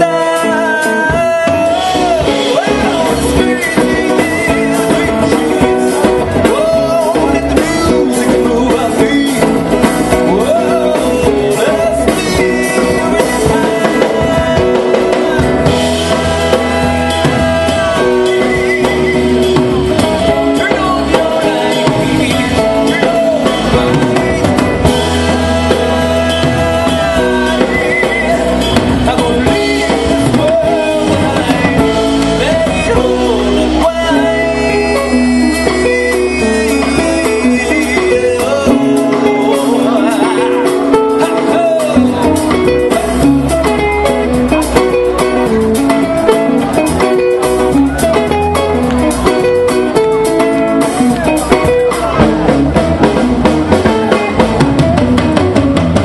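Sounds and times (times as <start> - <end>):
acoustic guitar: 0.0 - 56.0
drum kit: 0.0 - 56.0
man singing: 0.0 - 56.0
second guitar: 0.0 - 56.0.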